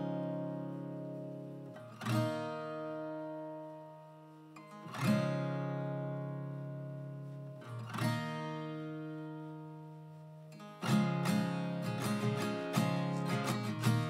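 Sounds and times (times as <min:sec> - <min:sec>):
acoustic guitar chords ringing: 0:00.0 - 0:14.0.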